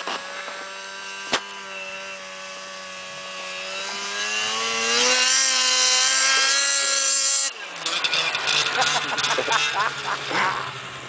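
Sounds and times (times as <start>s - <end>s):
snowmobile engine: 0.0s - 11.0s.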